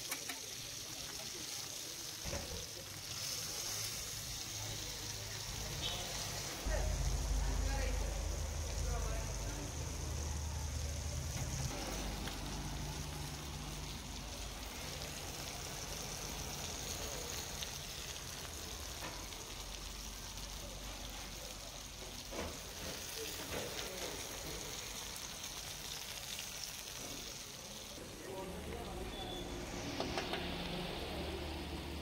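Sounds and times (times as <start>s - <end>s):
fish sizzling and crackling in oil: 0.0s - 28.0s, 29.0s - 32.0s.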